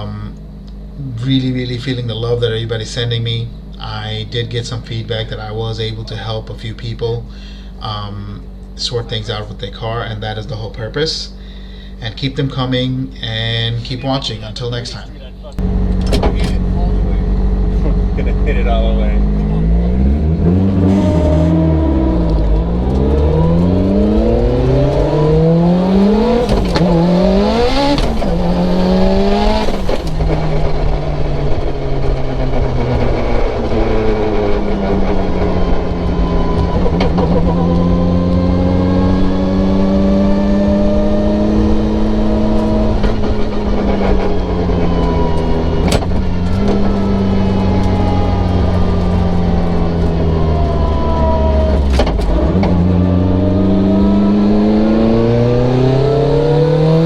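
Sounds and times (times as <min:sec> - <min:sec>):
sharp exhaust cracks: 0:00.0 - 0:56.6
car engine revving at full throttle: 0:00.0 - 0:57.0.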